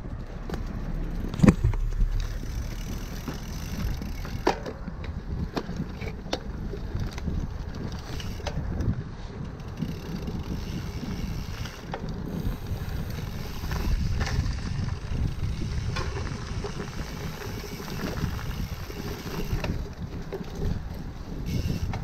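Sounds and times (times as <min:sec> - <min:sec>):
bike clicks and rattles: 0:00.0 - 0:22.0
tyres rumbling on dirt: 0:00.0 - 0:22.0
wind buffeting microphone: 0:00.0 - 0:22.0.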